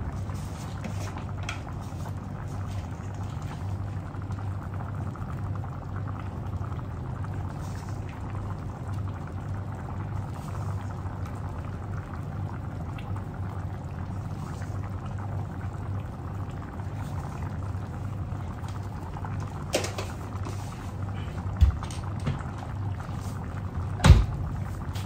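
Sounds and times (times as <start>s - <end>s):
sauce bubbling in a pan: 0.0s - 25.0s.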